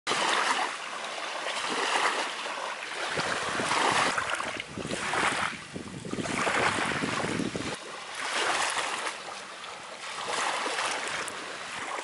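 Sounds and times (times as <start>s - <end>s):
small waves lapping on rocks: 0.1s - 12.0s.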